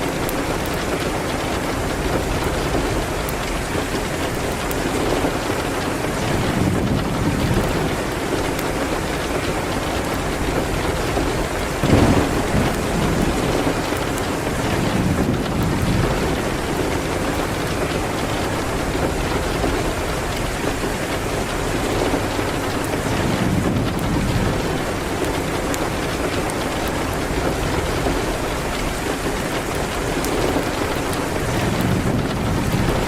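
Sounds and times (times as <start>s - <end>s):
rain on a window: 0.0s - 33.0s
thunder rumbling: 0.0s - 33.0s.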